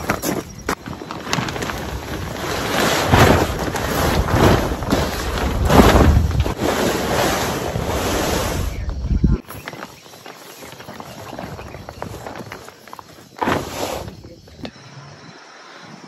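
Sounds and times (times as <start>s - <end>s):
vinyl sheet rustling on asphalt: 0.0s - 8.8s, 9.5s - 14.4s.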